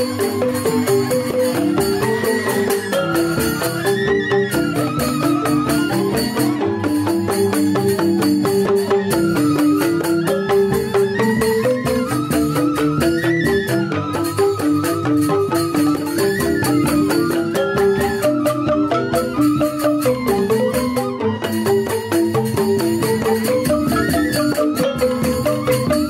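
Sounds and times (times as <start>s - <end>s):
bamboo flute melody: 0.0s - 26.0s
bamboo xylophones playing fast: 0.0s - 26.0s
hand drums beating: 0.0s - 26.0s.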